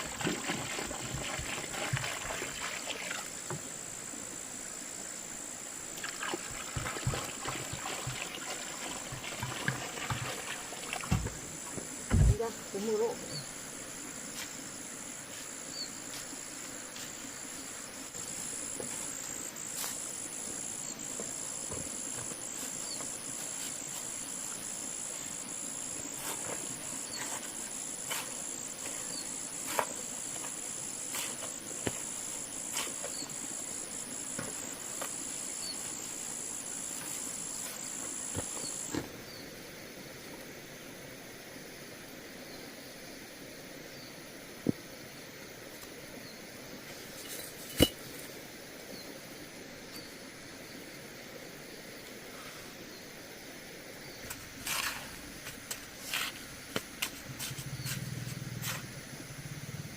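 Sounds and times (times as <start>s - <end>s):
shrill insect chorus: 0.0s - 40.8s, 42.3s - 59.9s.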